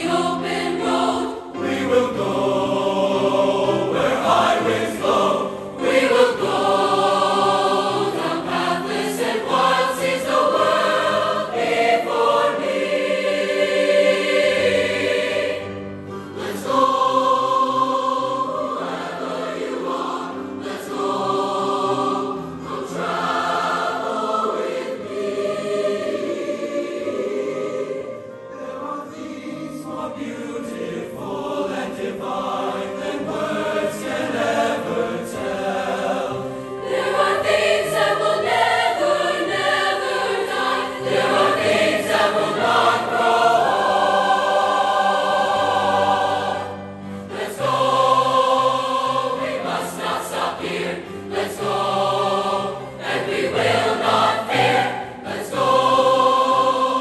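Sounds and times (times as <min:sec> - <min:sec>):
choir singing in parts: 0:00.0 - 0:57.0.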